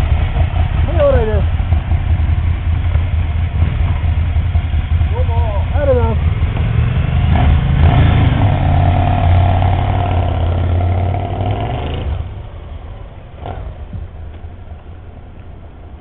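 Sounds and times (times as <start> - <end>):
motorcycle pulling away: 0.0 - 12.5, 13.3 - 14.2
distant motorcycles riding away: 0.0 - 16.0.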